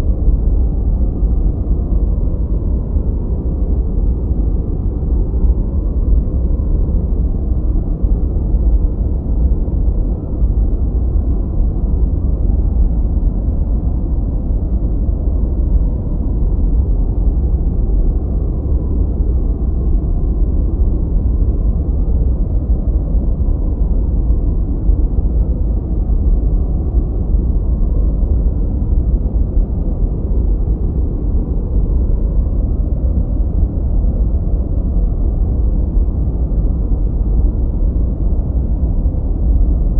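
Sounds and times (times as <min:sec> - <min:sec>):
deep rumbling generated noise: 0:00.0 - 0:39.9.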